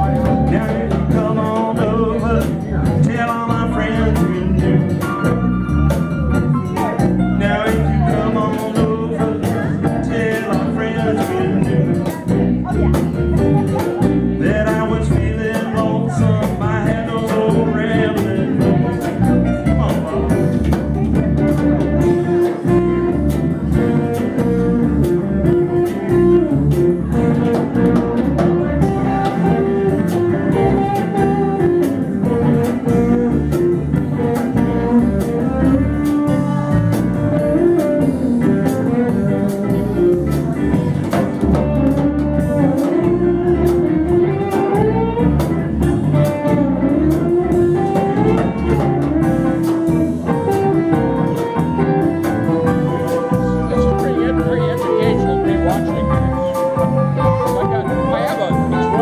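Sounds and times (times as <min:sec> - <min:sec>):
person singing: 0:00.0 - 0:05.5, 0:06.6 - 0:59.0
live blues band playing: 0:00.0 - 0:59.0.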